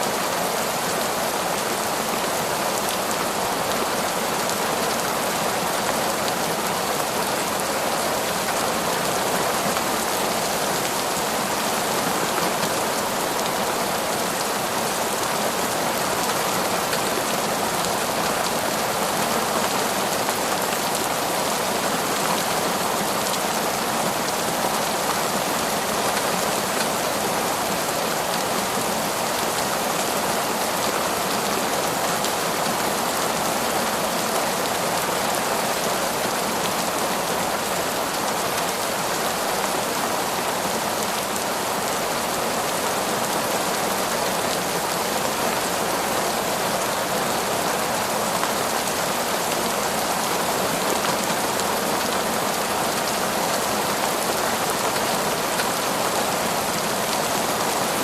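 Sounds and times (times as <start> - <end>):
heavy rain in a forest: 0.0 - 58.0.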